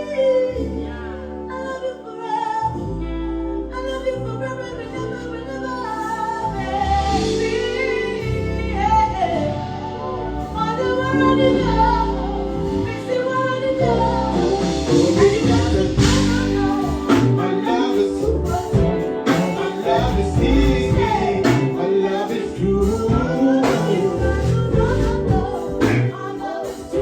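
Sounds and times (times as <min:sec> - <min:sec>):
woman singing: 0:00.0 - 0:27.0
live band playing: 0:04.9 - 0:27.0.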